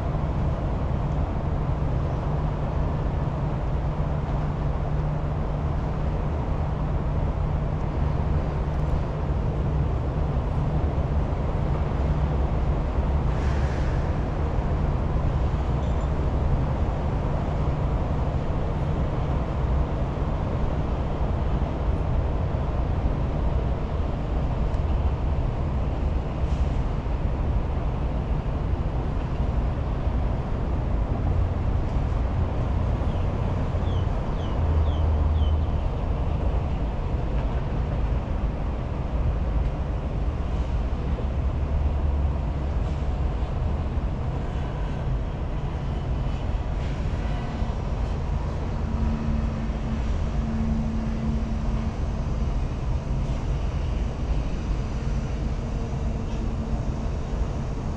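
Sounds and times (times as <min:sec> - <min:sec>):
low rumble of city ambience: 0:00.0 - 0:57.9.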